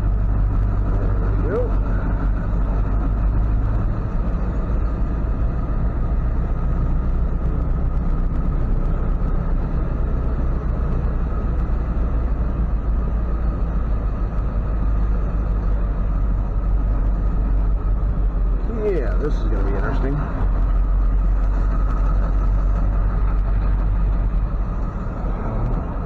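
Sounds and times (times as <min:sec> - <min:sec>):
truck engine low rumble: 0:00.0 - 0:26.0.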